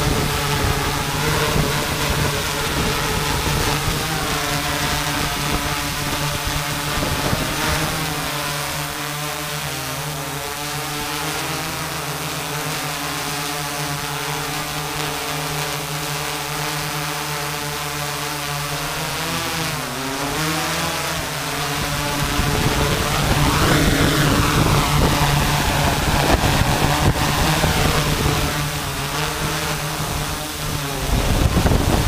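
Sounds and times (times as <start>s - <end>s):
drone motors humming: 0.0s - 32.0s.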